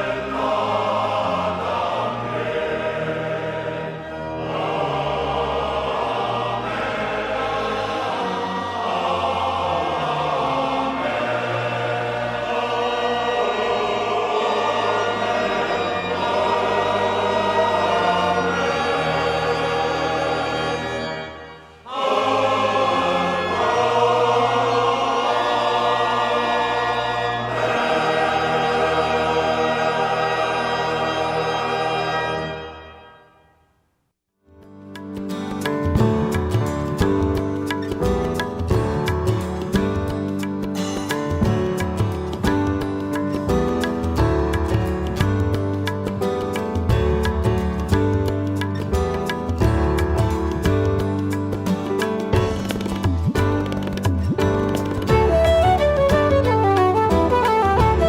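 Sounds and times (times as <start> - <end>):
music with voices singing together: 0.0 - 33.2, 34.8 - 58.0.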